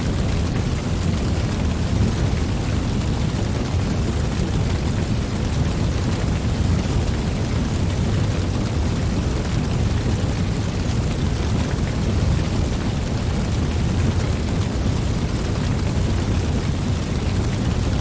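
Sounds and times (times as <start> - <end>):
fire crackles: 0.0 - 18.0
fire rumbling: 0.0 - 18.0.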